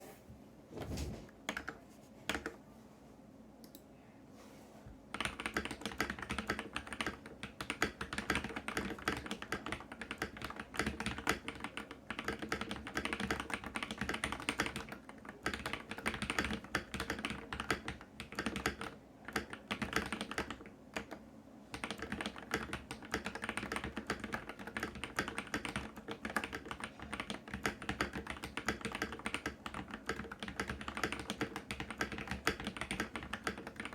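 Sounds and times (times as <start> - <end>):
typing on computer keyboard: 1.5 - 2.5, 5.1 - 33.9.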